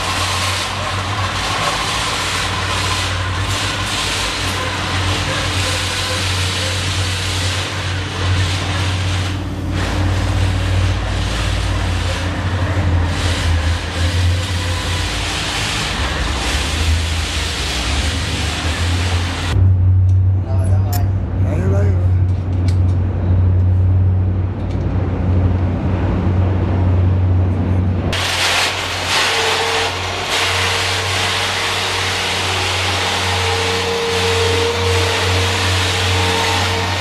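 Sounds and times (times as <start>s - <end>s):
constant low hum: 0.0s - 30.5s
heavy machinery running: 0.0s - 37.0s.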